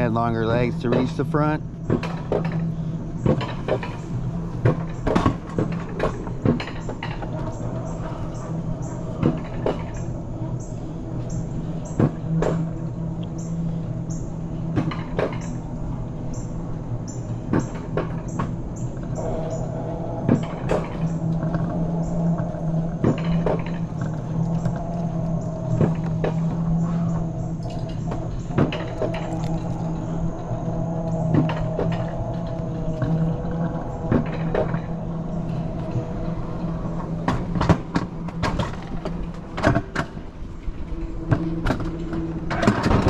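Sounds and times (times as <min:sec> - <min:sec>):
lift mechanical hum: 0:00.0 - 0:43.0
sled rattling on track: 0:00.0 - 0:43.0.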